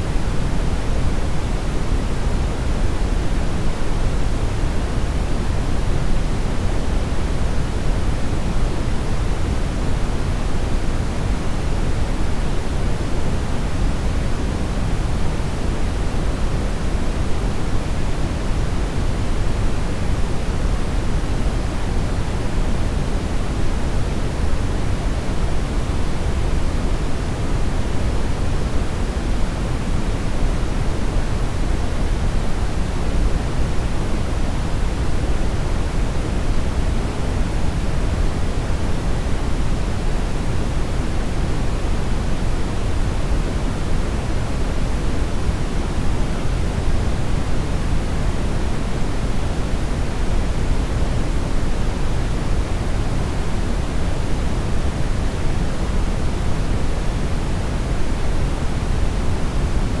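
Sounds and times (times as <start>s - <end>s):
steady brown noise: 0.0s - 60.0s.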